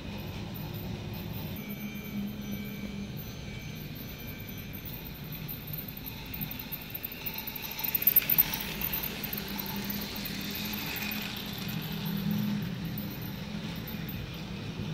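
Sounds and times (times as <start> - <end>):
toy train gears and wheels rattling: 0.0 - 14.9
toy train motor humming: 0.0 - 14.9.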